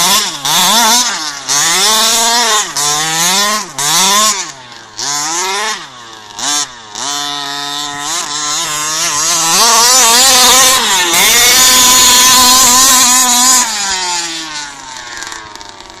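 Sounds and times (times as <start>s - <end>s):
rc car motor revving: 0.0s - 16.0s.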